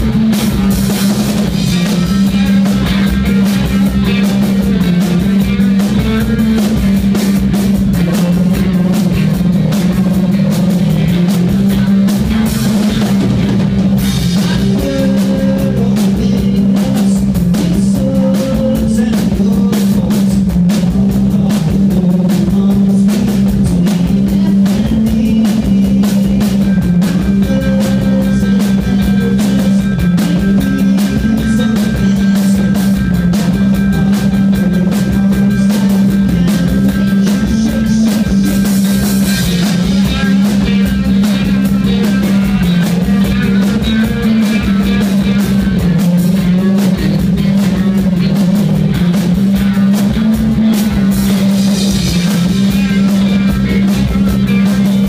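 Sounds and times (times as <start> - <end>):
drum kit drumming: 0.0 - 55.0
electric guitar: 0.0 - 55.0.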